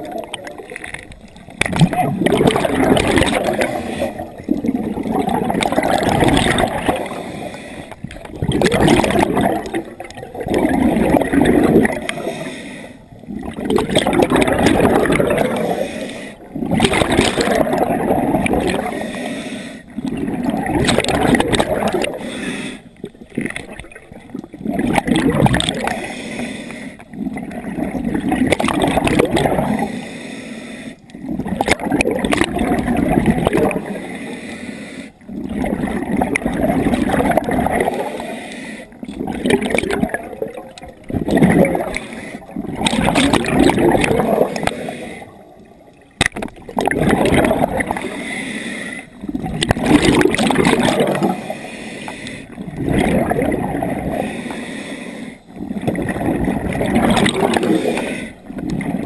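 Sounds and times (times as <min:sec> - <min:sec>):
regulator bubbles gurgling underwater: 0:00.0 - 0:59.0.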